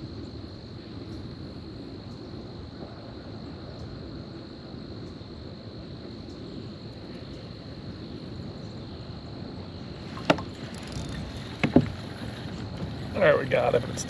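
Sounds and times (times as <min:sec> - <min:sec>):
low outdoor background noise: 0:00.0 - 0:14.0.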